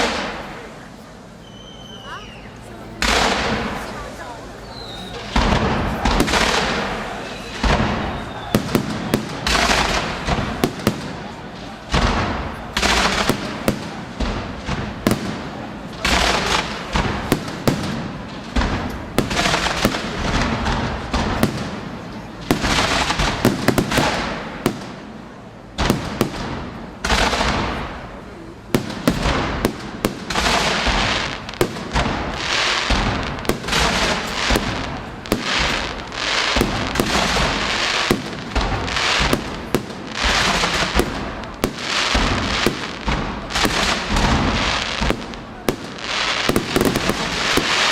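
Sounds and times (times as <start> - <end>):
crackling hiss: 0.0 - 47.9
firework shell bursts and bangs: 4.9 - 47.9.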